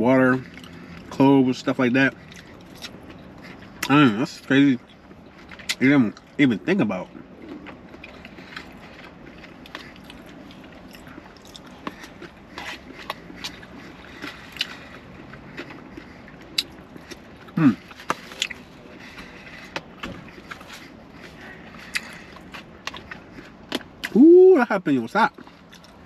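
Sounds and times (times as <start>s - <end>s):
person chewing food: 0.1s - 24.2s, 25.3s - 26.0s.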